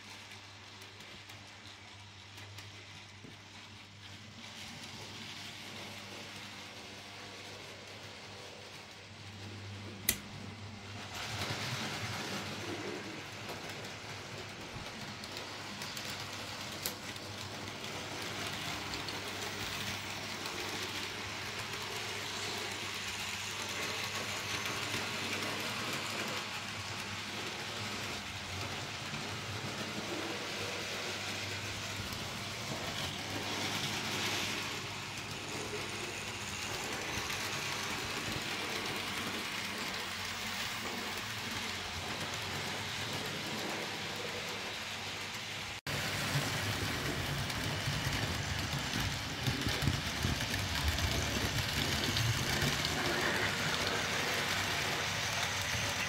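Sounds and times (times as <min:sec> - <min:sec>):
model trains whirring on rails: 0:00.0 - 0:56.0.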